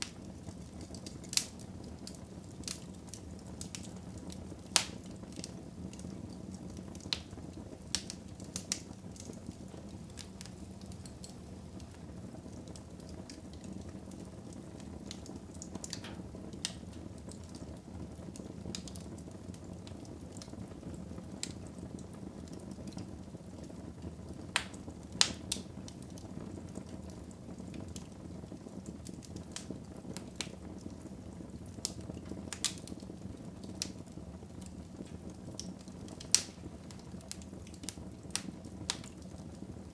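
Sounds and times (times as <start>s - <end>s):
fire crackles and pops: 0.0s - 39.9s
wood fire burning: 0.0s - 39.9s.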